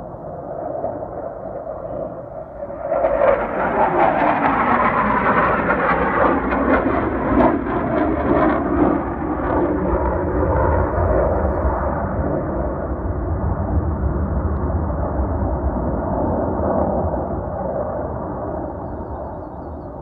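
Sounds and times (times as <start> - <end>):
jets flying past: 0.1 - 19.2.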